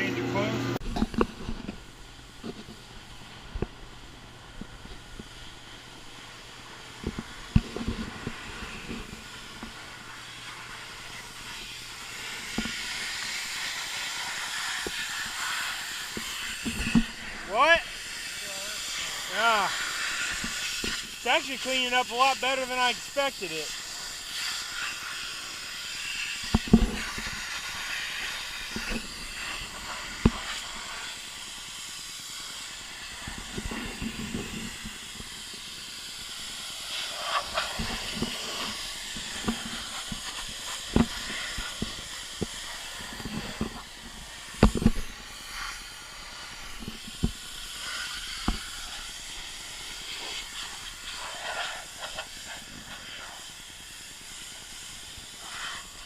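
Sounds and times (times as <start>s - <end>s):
pressure washer spray hissing: 4.9s - 56.0s.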